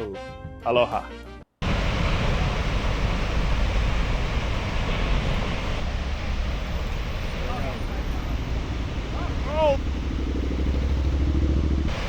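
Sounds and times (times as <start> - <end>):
big surf roaring: 1.6 - 12.0
wind: 1.6 - 12.0
wind buffeting the microphone: 1.6 - 12.0.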